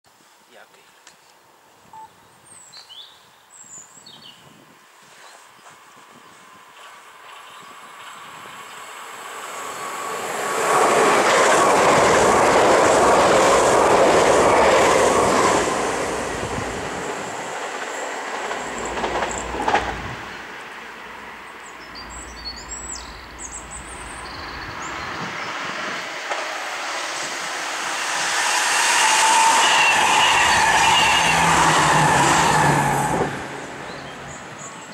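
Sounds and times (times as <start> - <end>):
train wheel and rail noise: 5.0 - 34.9.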